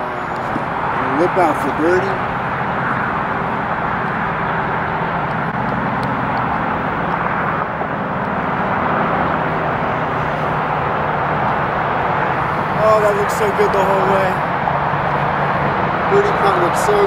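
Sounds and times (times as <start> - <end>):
distant engines droning: 0.0 - 17.0.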